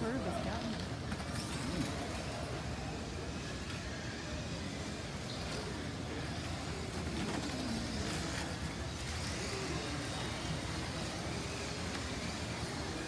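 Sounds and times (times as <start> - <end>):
slot cars whirring: 0.0 - 13.0.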